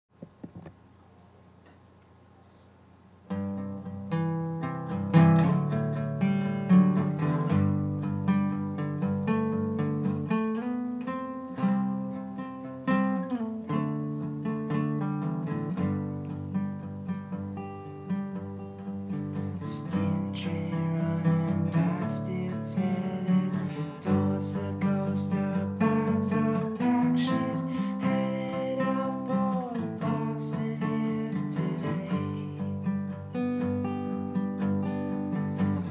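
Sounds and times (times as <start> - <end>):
acoustic guitar strumming chords: 3.3 - 35.9.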